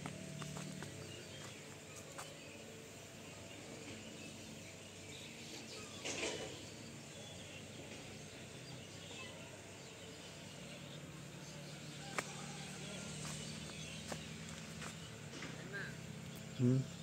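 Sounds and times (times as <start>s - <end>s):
distant bird chirps: 0.0s - 17.0s.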